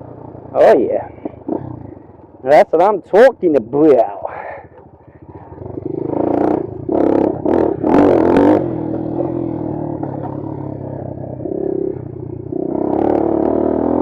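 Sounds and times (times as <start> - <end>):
motorcycle engine revving: 0.0 - 2.4, 4.6 - 14.0.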